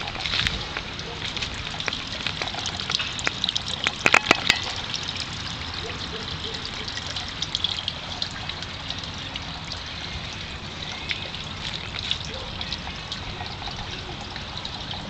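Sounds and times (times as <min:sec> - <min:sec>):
small irregular drips: 0:00.0 - 0:15.0
water trickling and splashing: 0:00.0 - 0:15.0.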